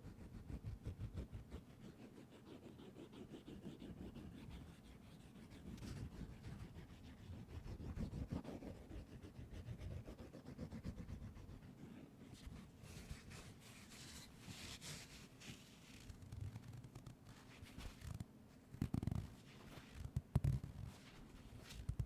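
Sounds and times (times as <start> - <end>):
rubbing and scratching on microphone: 0.1 - 22.0.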